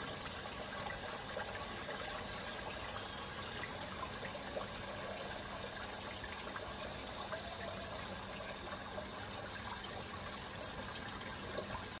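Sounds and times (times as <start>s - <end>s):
water trickling into a tub: 0.0s - 12.0s.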